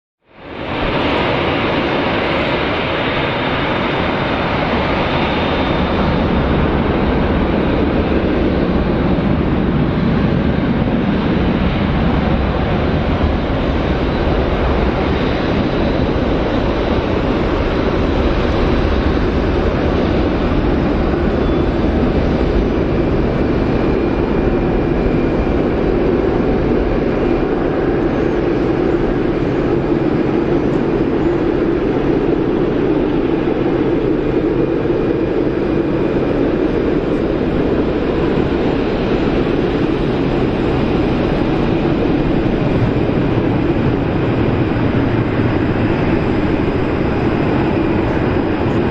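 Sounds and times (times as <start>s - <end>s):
jet engines at takeoff power: 0.2s - 48.9s.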